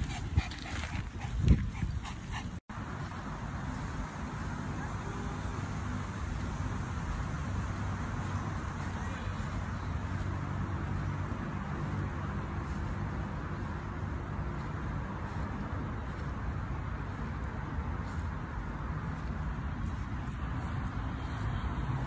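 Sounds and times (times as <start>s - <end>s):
distant road traffic rumble: 0.0s - 22.0s.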